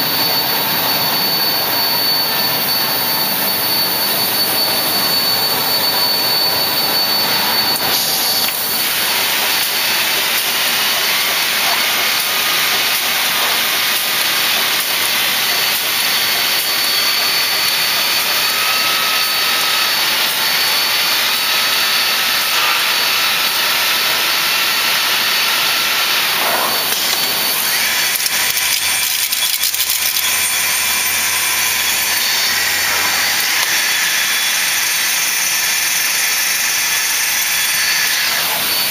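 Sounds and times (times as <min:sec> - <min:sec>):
boring machine hiss and whine: 0:00.0 - 0:38.9.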